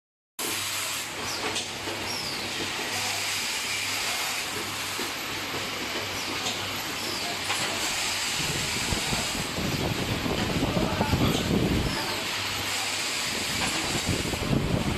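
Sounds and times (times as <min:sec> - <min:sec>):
machine hiss: 0:00.4 - 0:14.9.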